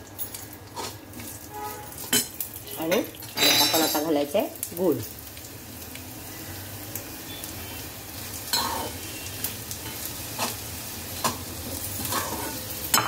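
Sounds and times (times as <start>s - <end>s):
hot ghee sizzling: 0.0s - 13.0s.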